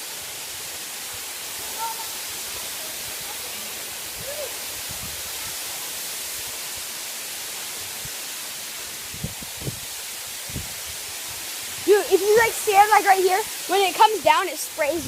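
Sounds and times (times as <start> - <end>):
waterfall rushing hiss: 0.0 - 15.0.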